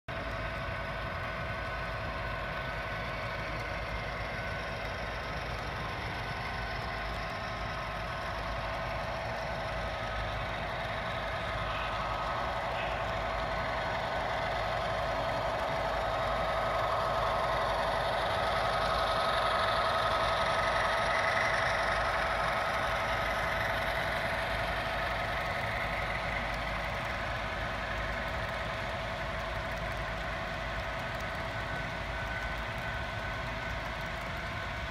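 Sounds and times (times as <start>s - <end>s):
model trains humming and rumbling: 0.1s - 34.9s.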